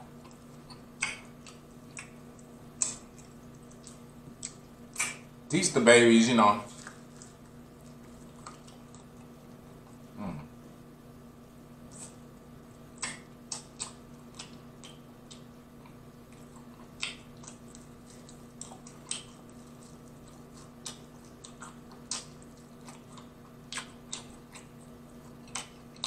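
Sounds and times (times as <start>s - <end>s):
crunchy chewing: 0.0s - 5.4s, 6.7s - 10.2s, 11.8s - 26.0s
faint steady hum: 0.0s - 26.0s.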